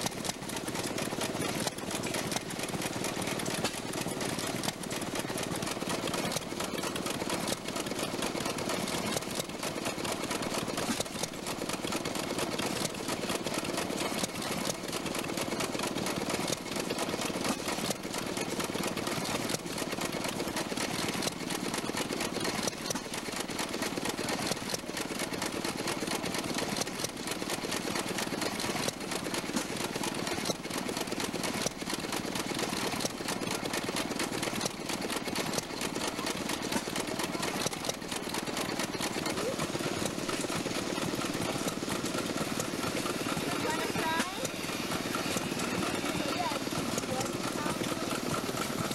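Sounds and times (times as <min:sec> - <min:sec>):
hand water pump: 0:00.0 - 0:48.9
stationary gas engine clattering: 0:00.0 - 0:48.9.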